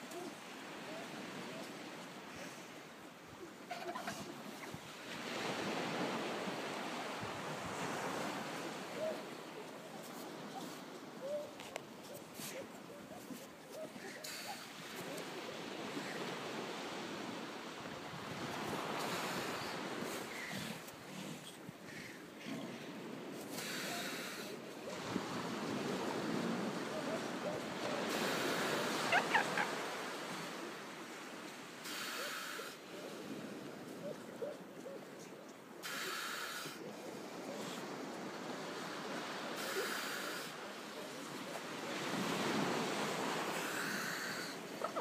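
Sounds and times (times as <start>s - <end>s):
surf washing: 0.0s - 45.0s.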